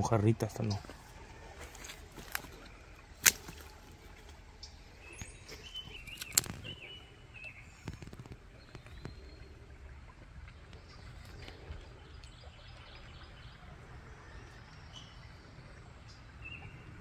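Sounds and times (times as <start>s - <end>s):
birds calling: 0.0s - 17.0s
low steady outdoor background: 0.0s - 17.0s.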